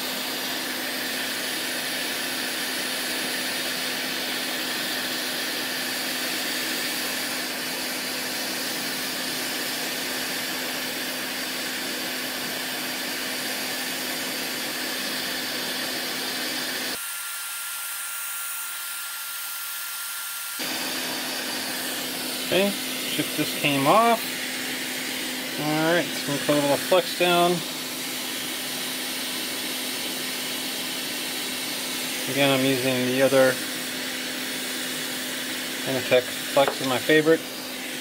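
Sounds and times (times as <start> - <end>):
hot air station blowing: 0.0 - 17.3, 20.1 - 38.0.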